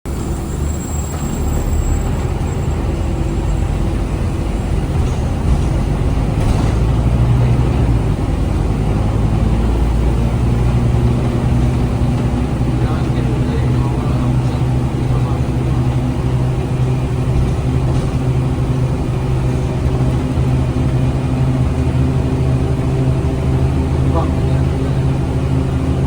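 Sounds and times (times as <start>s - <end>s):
bus diesel engine drone: 0.0s - 26.0s.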